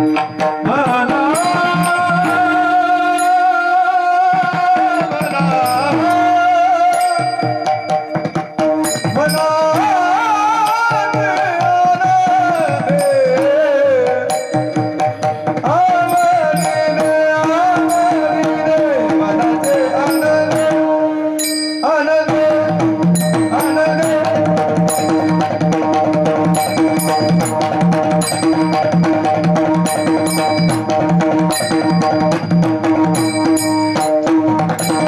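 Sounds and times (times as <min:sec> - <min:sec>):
hand drum beat: 0:00.0 - 0:20.9, 0:21.5 - 0:35.0
hand cymbals striking: 0:00.0 - 0:35.0.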